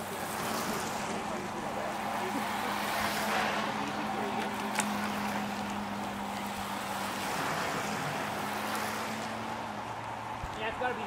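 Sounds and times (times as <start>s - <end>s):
bicycles on wet pavement hiss: 0.0s - 11.0s.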